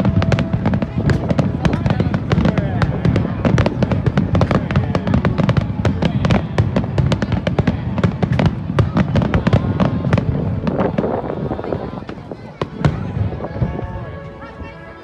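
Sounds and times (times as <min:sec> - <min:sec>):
low rolling boom: 0:00.0 - 0:14.9
fireworks bangs and crackling: 0:00.0 - 0:15.0.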